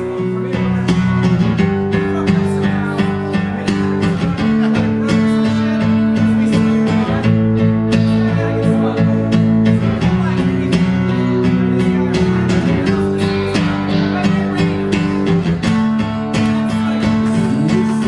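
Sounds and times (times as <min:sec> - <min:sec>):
acoustic and electric guitars: 0:00.0 - 0:18.0.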